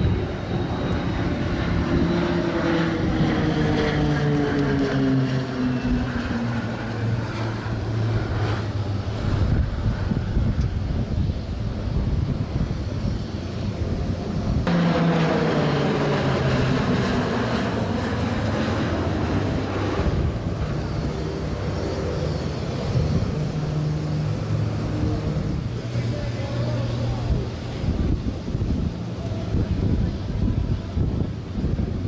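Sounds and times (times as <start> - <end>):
turboprop aircraft flying past: 0.0 - 32.0.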